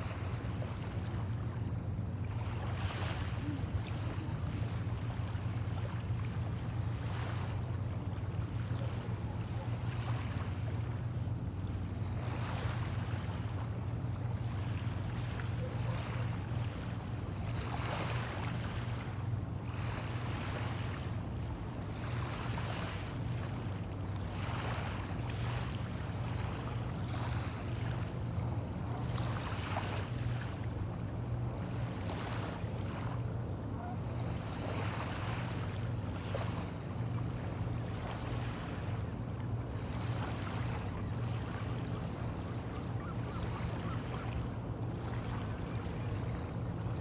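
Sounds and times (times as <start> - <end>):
small waves washing onto shore: 0.0 - 47.0
steady low hum: 0.0 - 47.0.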